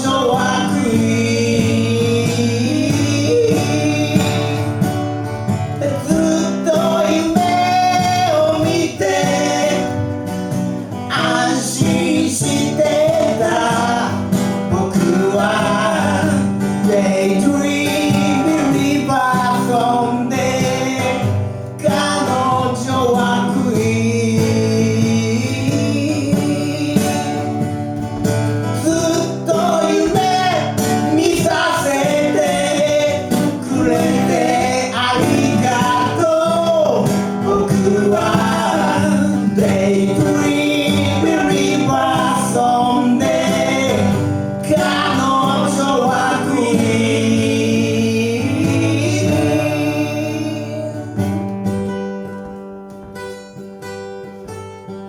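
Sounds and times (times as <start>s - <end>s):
man singing: 0.0s - 51.5s
strummed acoustic guitar: 0.0s - 55.0s.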